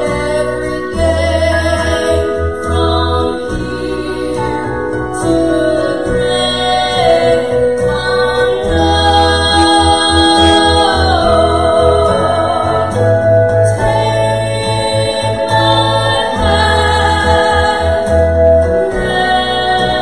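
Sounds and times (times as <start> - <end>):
instrumental accompaniment: 0.0 - 20.0
women singing gospel song: 0.0 - 20.0.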